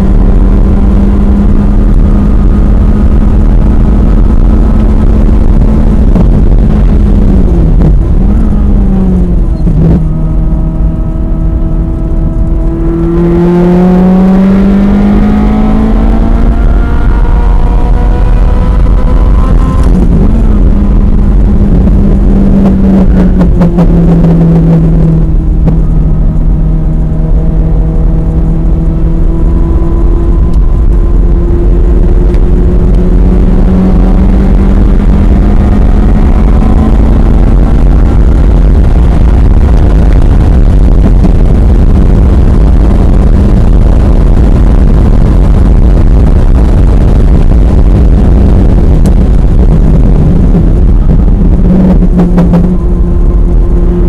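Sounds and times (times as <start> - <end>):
race car engine revving: 0.0 - 54.0
wind and road rumble: 0.0 - 54.0.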